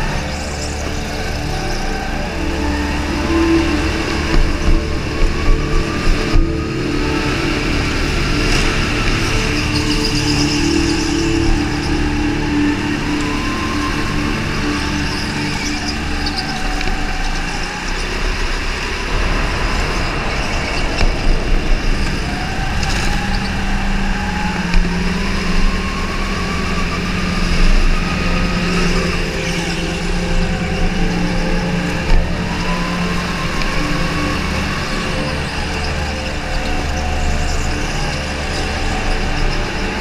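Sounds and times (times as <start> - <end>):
kart engine revving: 0.0 - 40.0.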